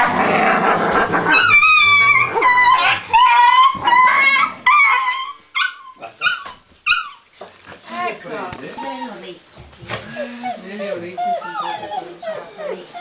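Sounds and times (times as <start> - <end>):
puppies whining and yipping: 0.7 - 13.0.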